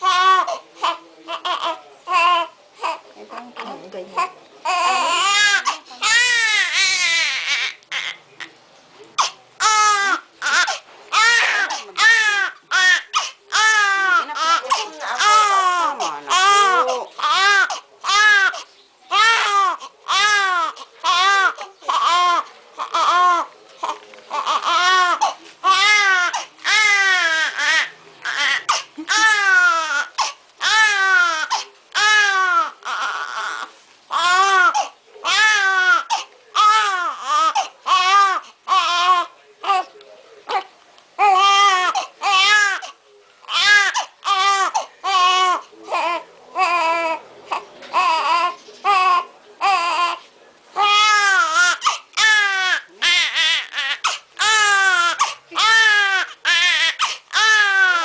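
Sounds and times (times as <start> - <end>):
newborn baby crying: 0.0 - 8.5, 9.2 - 39.9, 40.5 - 50.2, 50.8 - 58.0.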